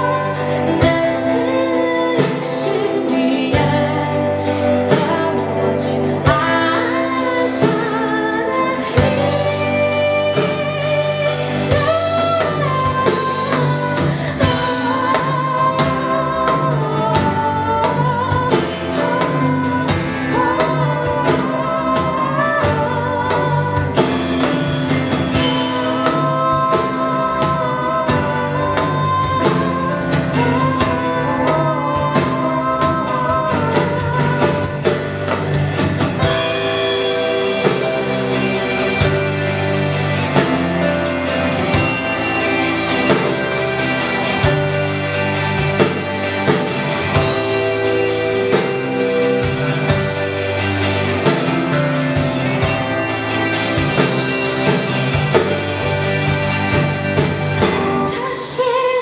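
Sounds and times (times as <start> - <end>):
live rock band playing: 0.0 - 59.0
person singing: 0.0 - 59.0.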